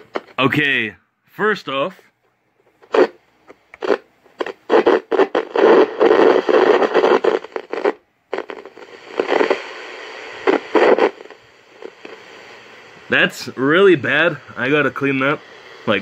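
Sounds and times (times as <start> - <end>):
radio speaker crackling: 0.0 - 0.6, 2.6 - 16.0.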